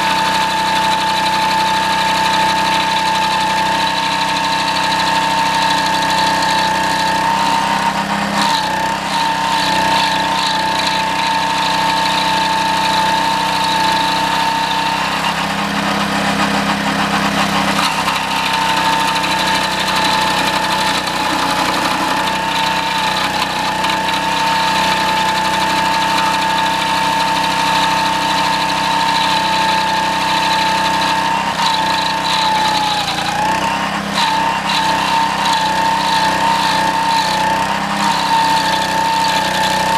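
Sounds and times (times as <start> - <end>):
stump grinder engine whine: 0.0 - 39.9.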